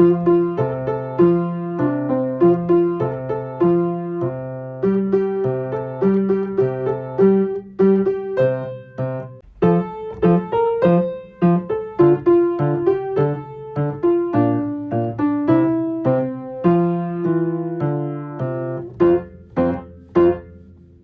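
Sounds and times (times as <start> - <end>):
solo piano playing: 0.0 - 21.0.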